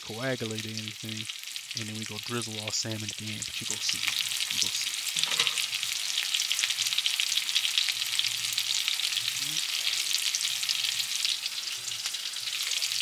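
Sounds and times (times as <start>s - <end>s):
fish sizzling in butter: 0.0s - 13.0s.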